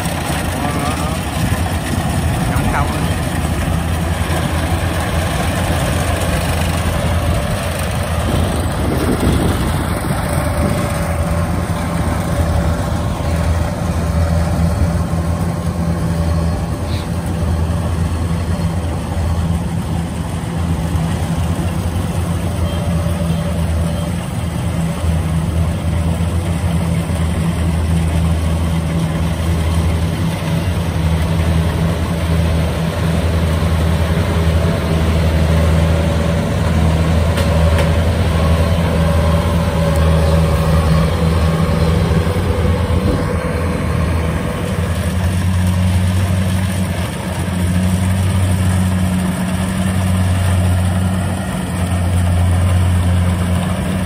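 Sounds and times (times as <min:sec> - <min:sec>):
harvester engine drone: 0:00.0 - 0:54.0.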